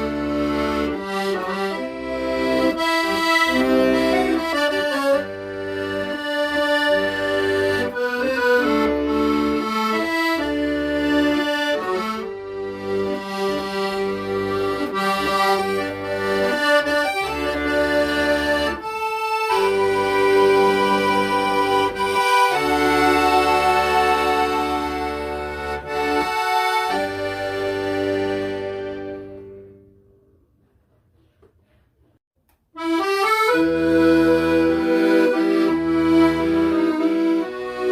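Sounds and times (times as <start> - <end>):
accordion playing a melody: 0.0 - 30.0, 32.7 - 37.9.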